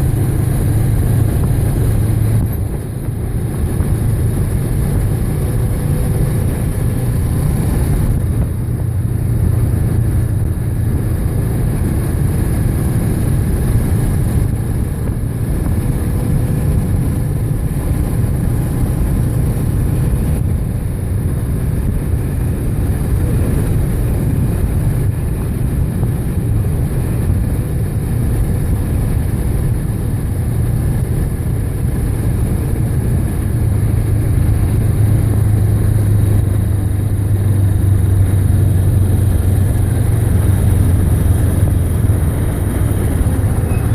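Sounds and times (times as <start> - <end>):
motorbike engine drone: 0.0 - 43.9
wind rushing on microphone: 0.0 - 43.9.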